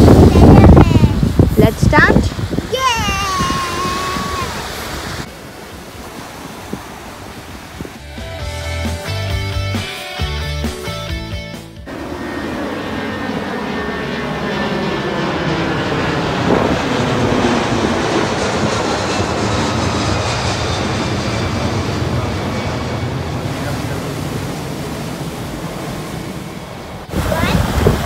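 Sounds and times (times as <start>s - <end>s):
jet airliner flying overhead: 0.0s - 8.2s, 11.8s - 28.0s.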